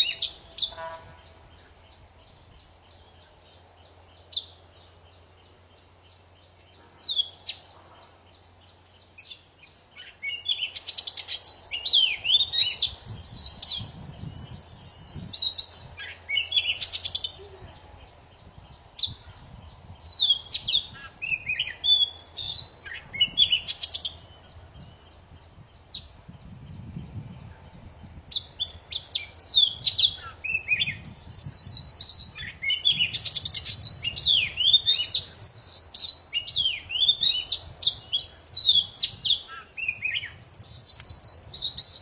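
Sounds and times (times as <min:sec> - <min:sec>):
bird singing: 0:00.0 - 0:42.0.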